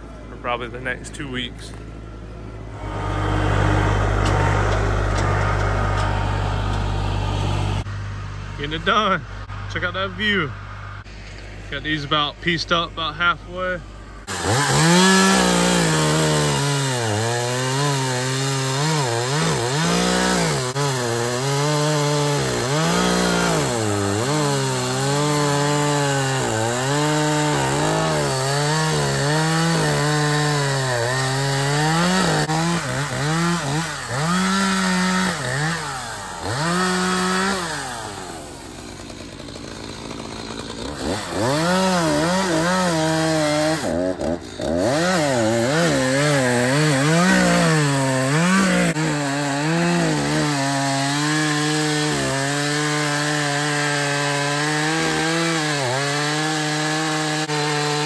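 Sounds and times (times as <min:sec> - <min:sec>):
chainsaw cutting wood: 0:01.7 - 0:07.9, 0:13.8 - 0:58.0.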